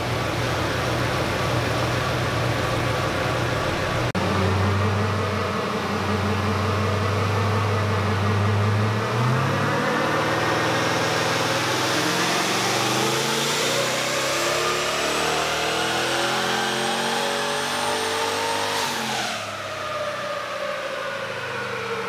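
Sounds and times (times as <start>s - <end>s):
car engine running: 0.0s - 19.2s.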